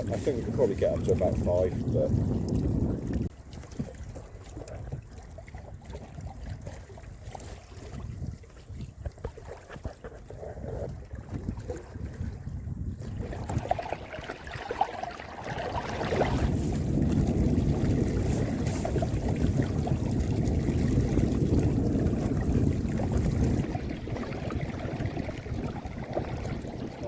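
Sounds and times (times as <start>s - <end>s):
water rushing along hull: 0.0s - 27.0s
wind buffeting microphone: 0.0s - 27.0s.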